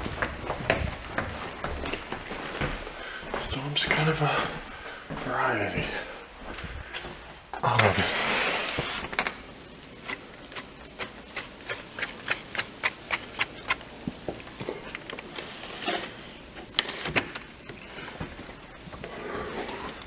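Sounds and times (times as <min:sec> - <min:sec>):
low hiss: 0:00.7 - 0:20.0.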